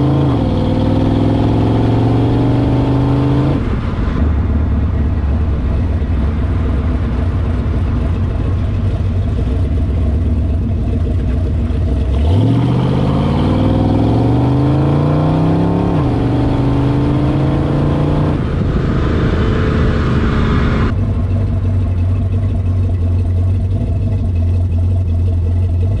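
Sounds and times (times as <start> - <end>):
car engine rumbling and accelerating: 0.0 - 26.0.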